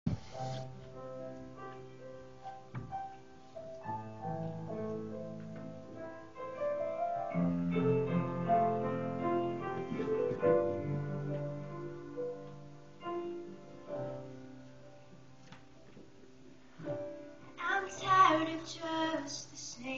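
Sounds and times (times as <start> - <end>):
piano playing chords and melody: 0.0 - 19.3.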